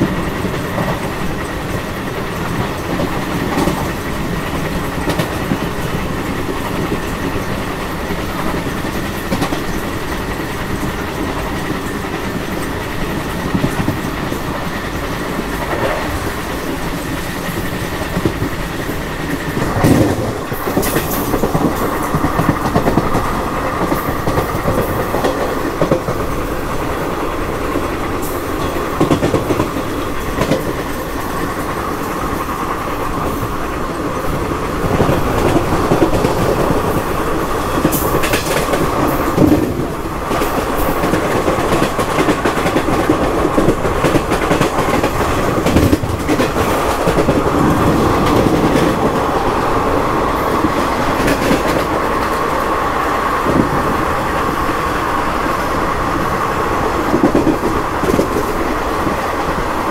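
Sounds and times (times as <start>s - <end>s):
train rumble: 0.0s - 59.9s
train wheels clattering on rails: 0.0s - 59.9s.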